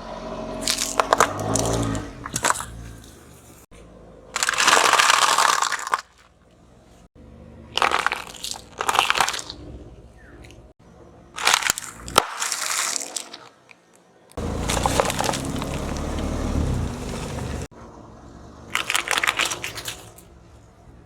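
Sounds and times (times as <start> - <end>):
objects crunching under car tyre: 0.5 - 10.6, 11.4 - 17.7, 18.7 - 20.4.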